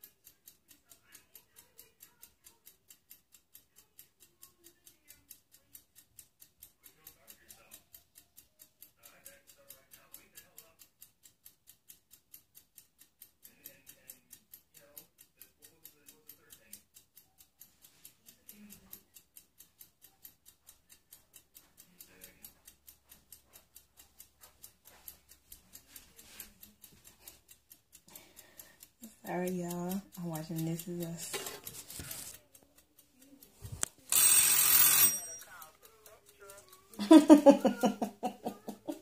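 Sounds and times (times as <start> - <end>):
faint distant voices: 0.0 - 11.0, 13.5 - 39.0
fast even ticking: 0.0 - 39.0.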